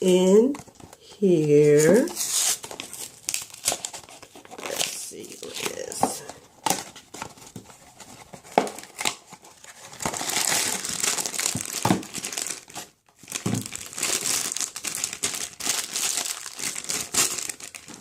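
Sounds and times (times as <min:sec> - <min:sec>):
plastic packaging crumpling: 0:01.7 - 0:18.0.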